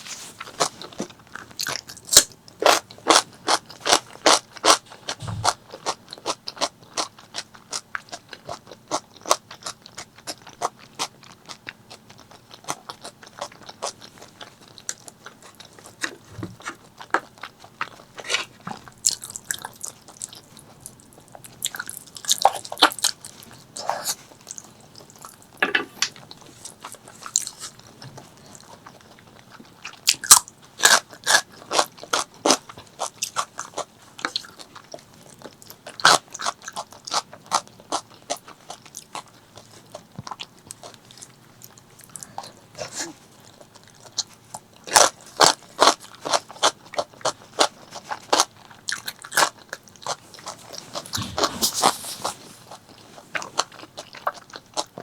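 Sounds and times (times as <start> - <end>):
person chewing with mouth clicks: 0.4 - 55.0.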